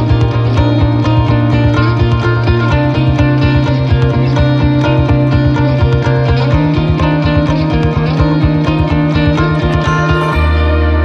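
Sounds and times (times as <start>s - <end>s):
music with fast steady beat: 0.0s - 11.0s.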